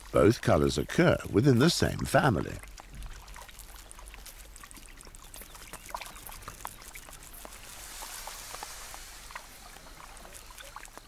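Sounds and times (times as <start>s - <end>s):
soft hiss: 0.0s - 11.0s
water trickling and dripping: 0.0s - 11.0s.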